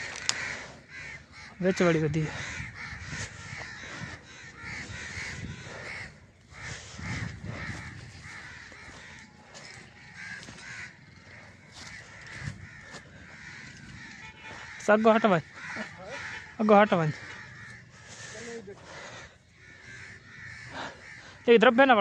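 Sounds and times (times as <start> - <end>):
birds making harsh calls: 0.0 - 22.0.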